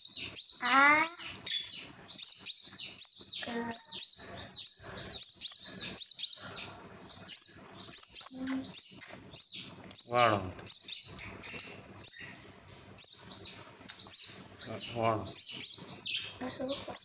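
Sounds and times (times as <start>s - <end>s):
bird chick begging chirps: 0.0s - 12.4s, 13.0s - 17.0s.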